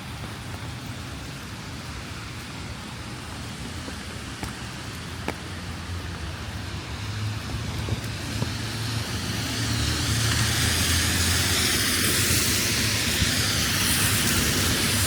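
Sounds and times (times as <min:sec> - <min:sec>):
tyre hiss on wet street: 0:00.0 - 0:15.0.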